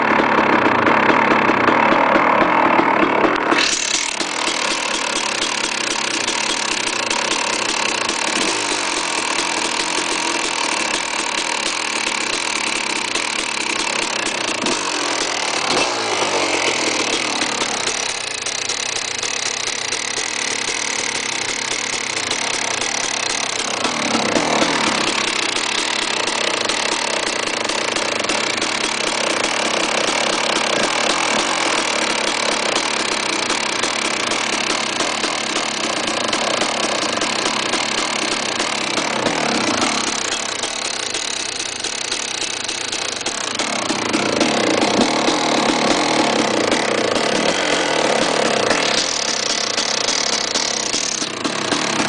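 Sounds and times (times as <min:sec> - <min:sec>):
motorcycle engine idling: 0:00.0 - 0:52.0.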